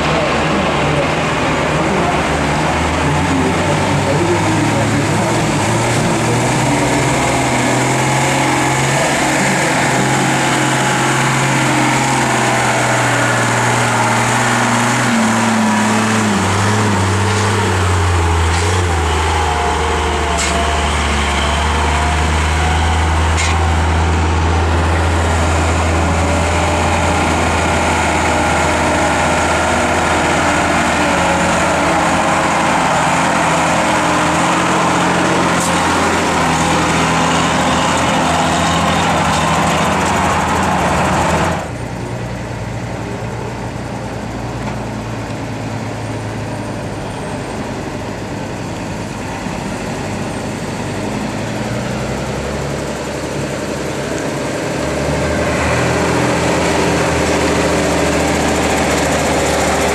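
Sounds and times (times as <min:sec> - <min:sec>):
diesel truck engines under load: 0:00.0 - 0:59.9.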